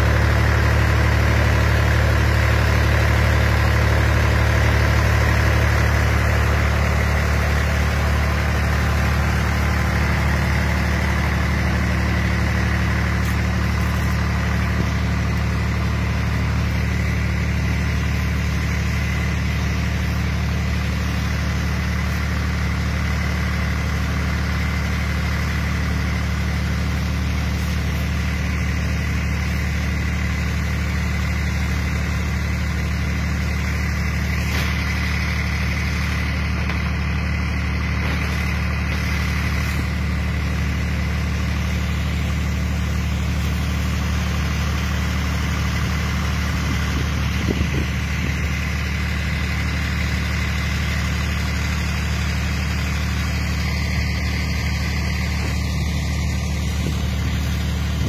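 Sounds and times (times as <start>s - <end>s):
engine droning with whine: 0.0s - 58.0s.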